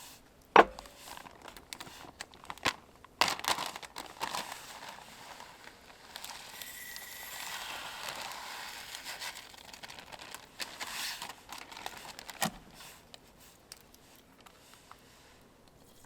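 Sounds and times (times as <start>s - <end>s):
crinkling and rustling: 0.5s - 6.7s, 7.4s - 16.0s.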